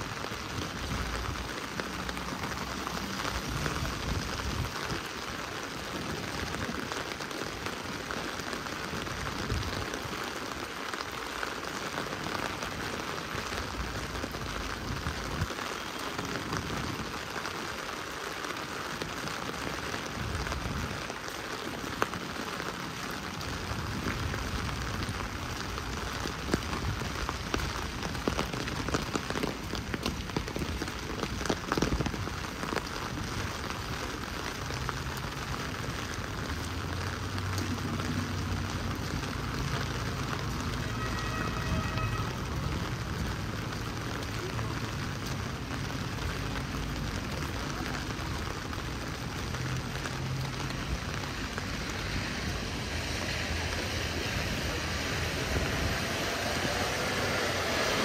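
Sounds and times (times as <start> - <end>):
heavy rain splashing: 0.0 - 58.0
raindrops ticking: 0.0 - 58.0.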